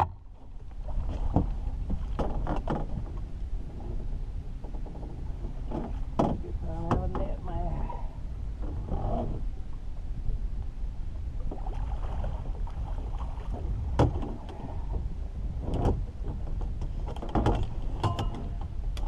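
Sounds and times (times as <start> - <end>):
knocks and clatters against boat: 0.0 - 19.0
steady low rumble: 0.0 - 19.0.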